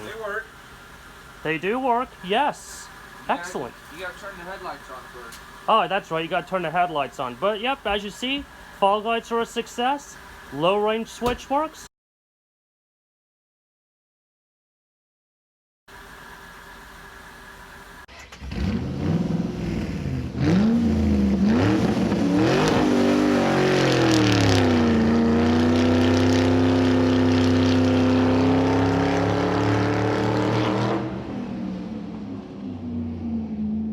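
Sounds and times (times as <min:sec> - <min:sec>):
car engine idling and revving: 0:00.0 - 0:11.7, 0:15.9 - 0:33.9.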